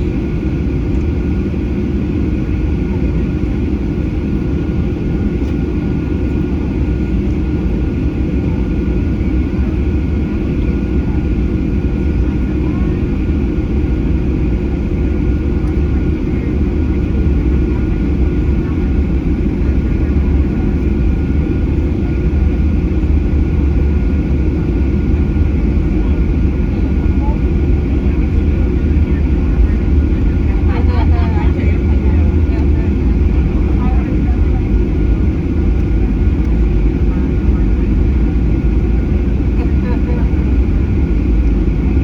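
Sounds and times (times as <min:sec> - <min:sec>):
jet engine cabin rumble: 0:00.0 - 0:42.0.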